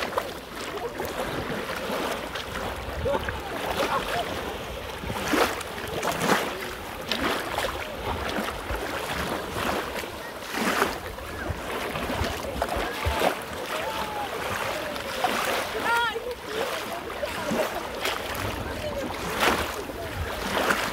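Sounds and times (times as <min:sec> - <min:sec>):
small waves splashing: 0:00.0 - 0:20.9
surf washing over shingle: 0:00.0 - 0:20.9.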